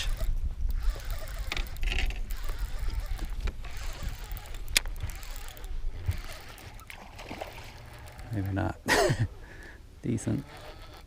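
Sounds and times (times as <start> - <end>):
fishing reel cranking: 0.0 - 8.7, 10.1 - 11.0.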